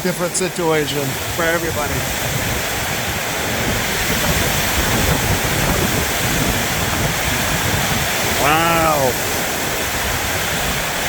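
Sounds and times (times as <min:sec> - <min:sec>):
gusting wind: 0:00.0 - 0:11.0
heavy rain on a metal roof: 0:00.0 - 0:11.0.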